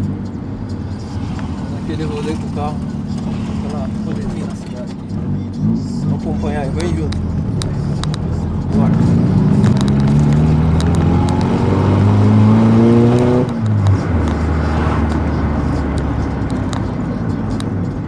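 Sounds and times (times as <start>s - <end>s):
car engine pulling away: 0.0s - 18.0s.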